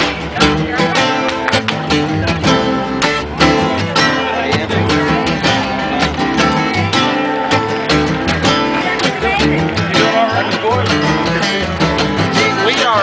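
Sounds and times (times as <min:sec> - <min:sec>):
acoustic guitars strumming: 0:00.0 - 0:13.0
upright bass walking line: 0:00.0 - 0:13.0.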